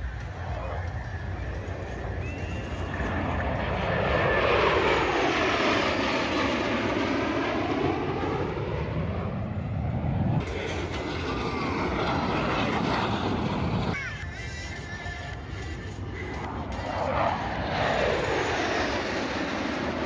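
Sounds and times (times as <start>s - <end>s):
airplane engine drone: 0.0s - 20.0s.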